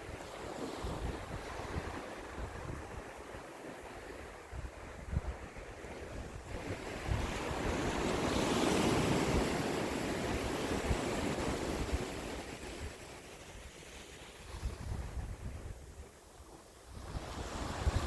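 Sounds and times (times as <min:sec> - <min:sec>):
sea waves breaking: 0:00.0 - 0:14.8
wind buffeting microphone: 0:00.0 - 0:16.2, 0:16.9 - 0:18.0.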